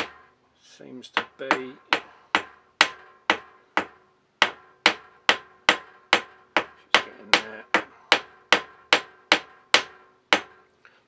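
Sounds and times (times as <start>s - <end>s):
hammer tapping metal vise: 0.0s - 0.4s, 1.0s - 10.7s.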